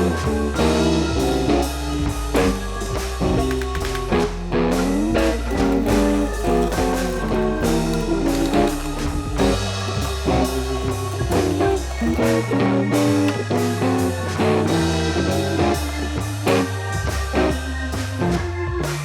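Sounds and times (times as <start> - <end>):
upbeat guitar-led rock music: 0.0 - 19.0.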